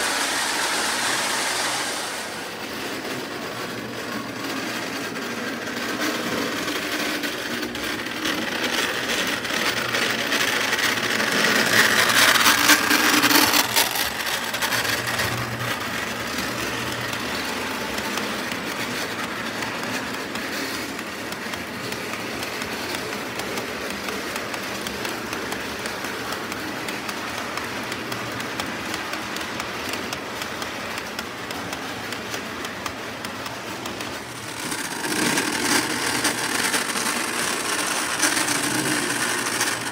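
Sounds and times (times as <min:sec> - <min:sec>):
model train motor whirring: 0:00.0 - 0:39.9
wheels rumbling and clicking on rails: 0:00.0 - 0:39.9.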